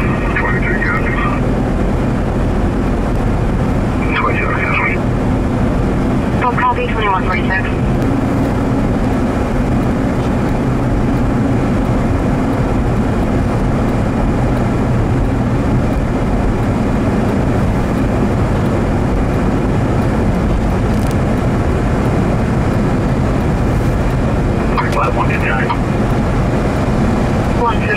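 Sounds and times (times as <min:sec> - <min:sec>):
truck engine and road noise: 0:00.0 - 0:27.9.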